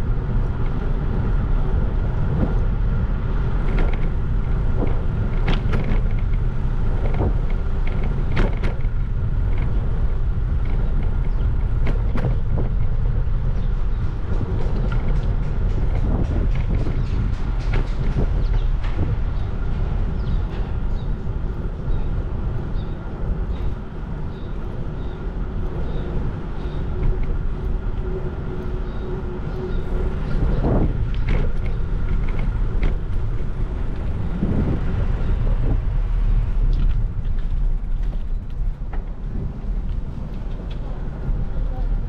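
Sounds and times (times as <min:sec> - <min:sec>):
cars and buses passing: 0:00.0 - 0:42.0
low traffic rumble: 0:00.0 - 0:42.0.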